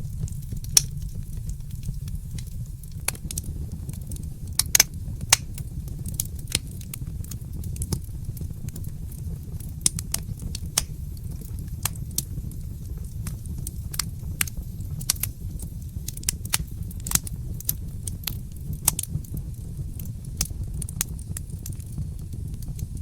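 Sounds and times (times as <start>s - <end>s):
low fire rumble: 0.0s - 23.0s
wood fire crackling and popping: 0.0s - 23.0s.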